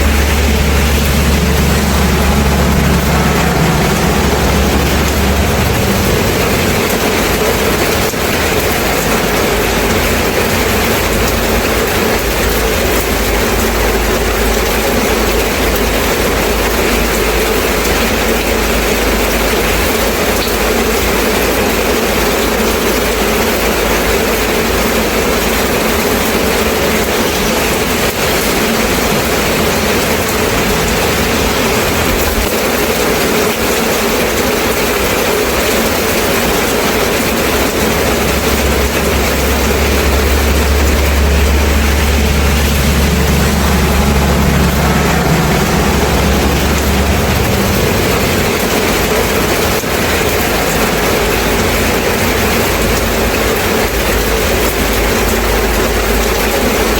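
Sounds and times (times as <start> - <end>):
low rumble: 0.0 - 18.0, 25.8 - 56.2
steady rain: 0.0 - 56.9.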